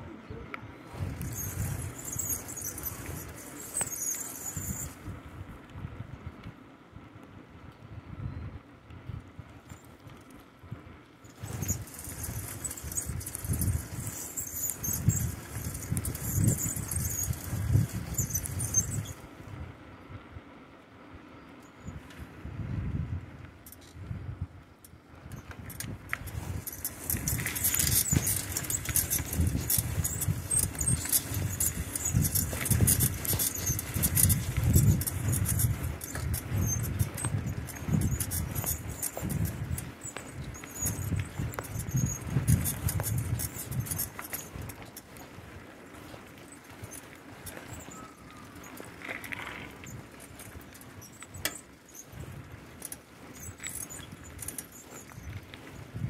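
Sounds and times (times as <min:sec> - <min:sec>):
rumble of wind and tyres: 0:00.0 - 0:56.0
bicycle rattling and clicking: 0:00.8 - 0:06.7, 0:09.0 - 0:20.1, 0:21.2 - 0:56.0.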